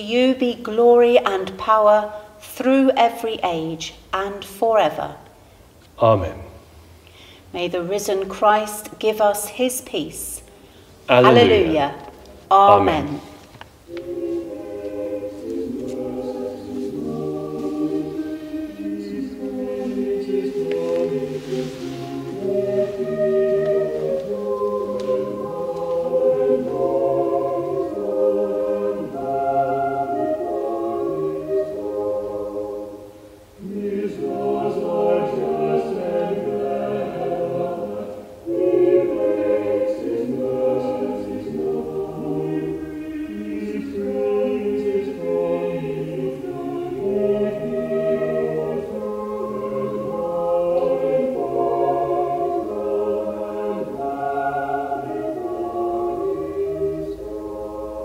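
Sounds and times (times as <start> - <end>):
choir singing: 11.1 - 58.0.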